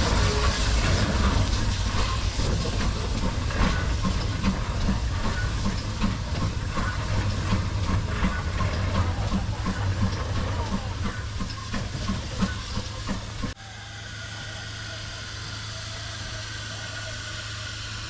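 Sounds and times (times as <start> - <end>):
hissing steam: 0.0 - 18.0
steam train rumble: 0.0 - 18.0.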